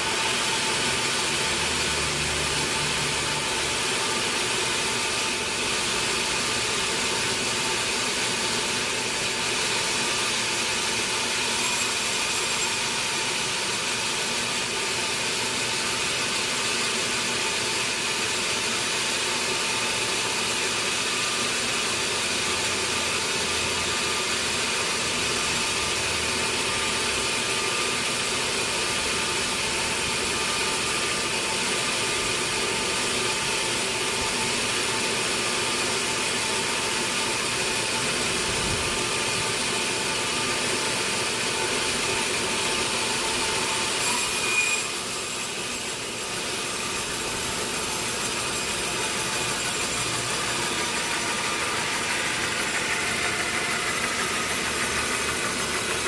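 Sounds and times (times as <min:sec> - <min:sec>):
high whine of saw: 0:00.0 - 0:56.0
sawmill saw cutting log: 0:00.0 - 0:56.0.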